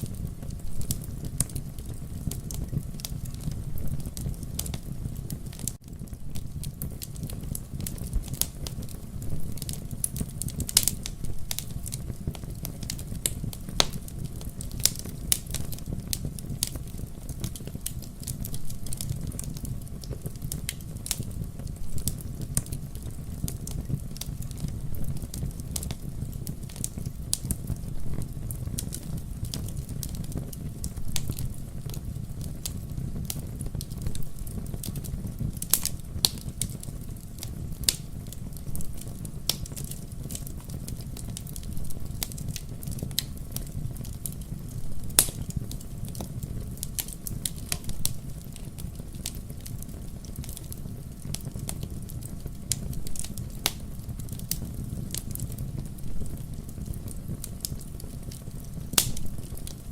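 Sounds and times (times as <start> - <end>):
fire crackling and popping: 0.0 - 59.9
low rumble of fire: 0.0 - 59.9.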